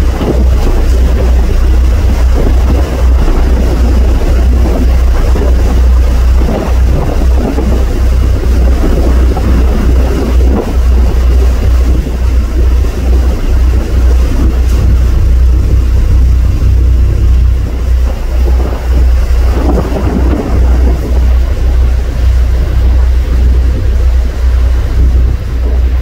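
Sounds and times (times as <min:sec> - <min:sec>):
boat engine rumble: 0:00.0 - 0:26.0
wind buffeting microphone: 0:00.0 - 0:26.0.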